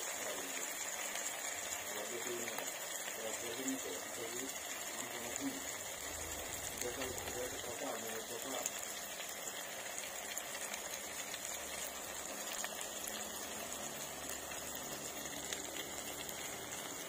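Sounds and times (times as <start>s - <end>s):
curry sizzling in oil: 0.0s - 17.0s.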